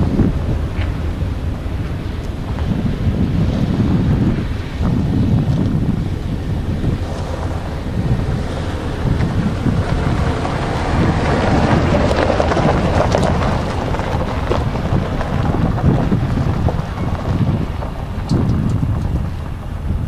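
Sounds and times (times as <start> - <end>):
freight train rumble: 0.0 - 20.0
wind buffeting microphone: 0.0 - 20.0.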